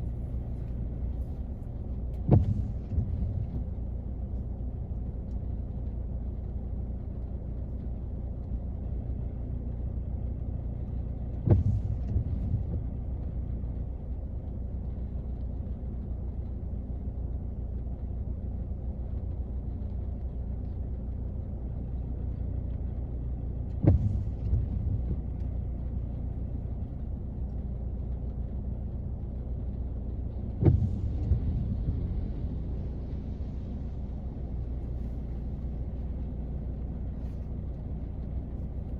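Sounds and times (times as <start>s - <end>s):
rain on car body from inside: 0.0s - 38.9s.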